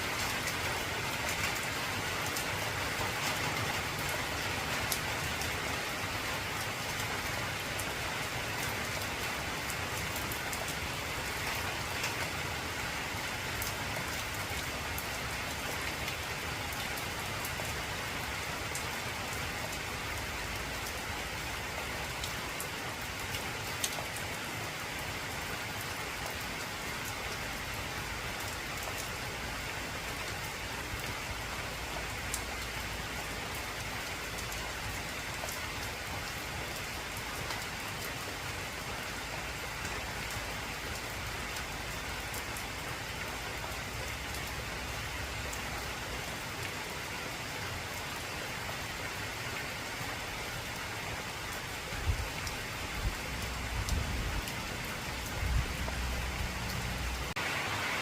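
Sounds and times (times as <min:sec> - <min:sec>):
heavy rain on metal roof: 0:00.0 - 0:58.0.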